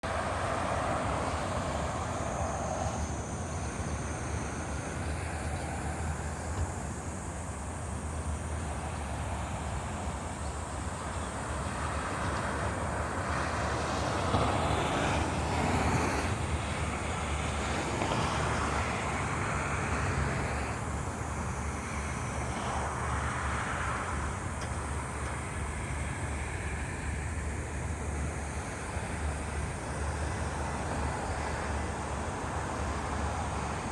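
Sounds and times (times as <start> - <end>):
road traffic hum: 0.0 - 33.9
vehicles passing: 0.0 - 33.9
wind: 0.0 - 33.9.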